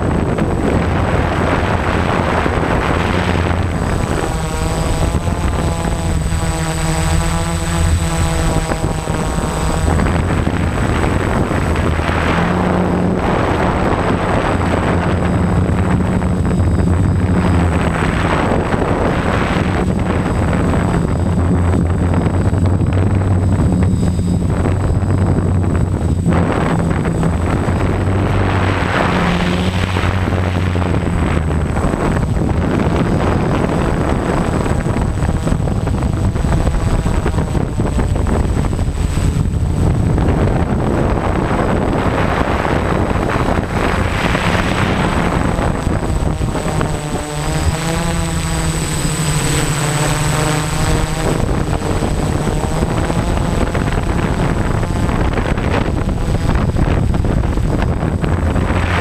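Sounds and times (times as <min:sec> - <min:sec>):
drone motors and propellers: 0:00.0 - 0:59.0
wind noise on microphone: 0:00.0 - 0:59.0.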